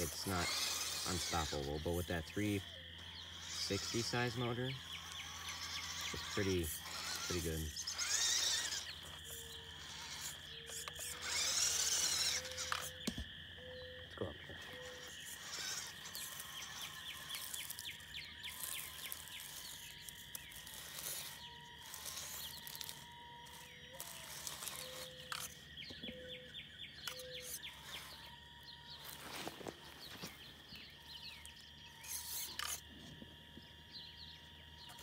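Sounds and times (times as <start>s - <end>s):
quick chirps: 0.0s - 13.9s, 14.6s - 32.8s
high insect drone: 0.0s - 35.0s.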